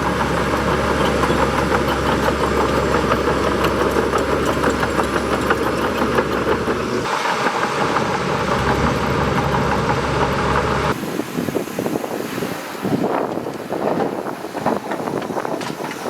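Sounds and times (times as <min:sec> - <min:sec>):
bulldozer diesel engine clatter: 0:00.0 - 0:12.0, 0:12.6 - 0:16.0.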